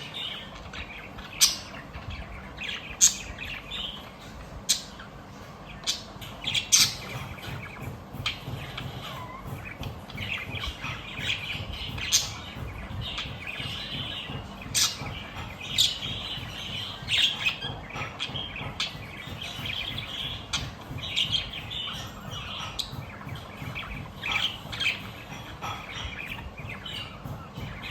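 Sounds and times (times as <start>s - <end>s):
budgerigars chirping: 0.0s - 27.9s.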